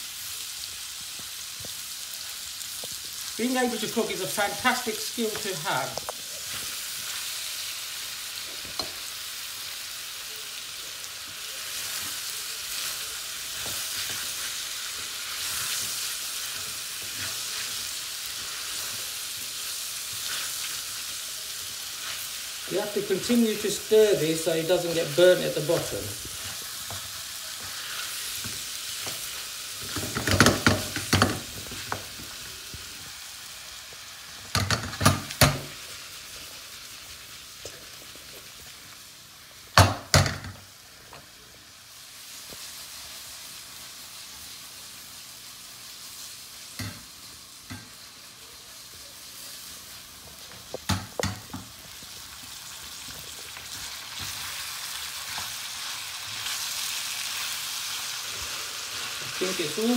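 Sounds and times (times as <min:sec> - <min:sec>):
food sizzling in wok: 0:00.0 - 0:59.9.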